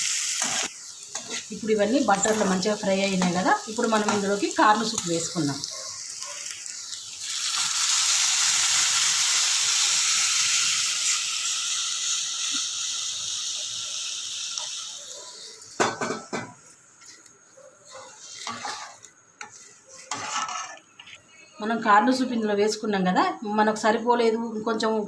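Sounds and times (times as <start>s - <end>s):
vegetables sizzling in a pan: 0.0s - 20.7s.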